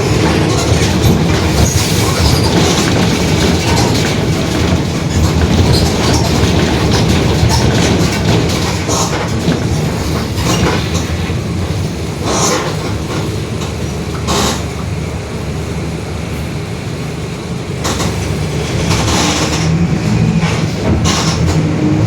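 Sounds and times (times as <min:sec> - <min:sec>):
bus diesel drone: 0:00.0 - 0:22.0.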